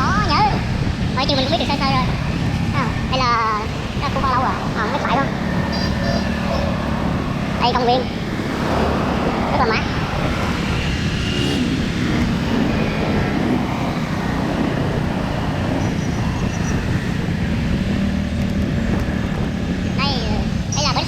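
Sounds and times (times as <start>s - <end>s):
vehicle engine running: 0.0s - 21.0s
wind and road noise: 0.0s - 21.0s.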